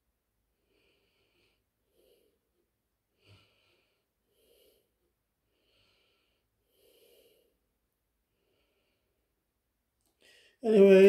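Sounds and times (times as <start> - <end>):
person breathing slowly: 0.6 - 9.4, 10.1 - 10.6.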